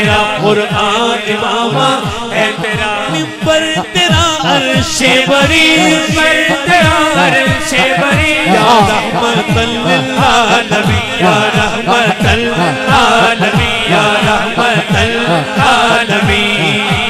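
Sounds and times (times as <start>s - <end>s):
man singing ornamented notes: 0.0s - 17.0s
men chanting low phrase: 0.0s - 17.0s.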